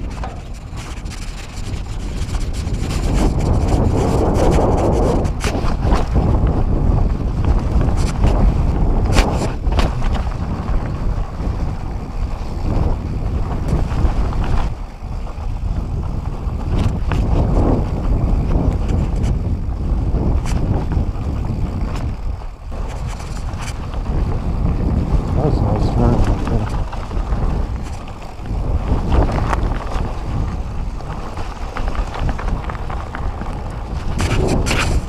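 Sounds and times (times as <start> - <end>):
bike rattling over bumps: 0.0 - 35.0
tyres rolling on dirt trail: 0.0 - 35.0
wind rushing over microphone: 0.0 - 35.0.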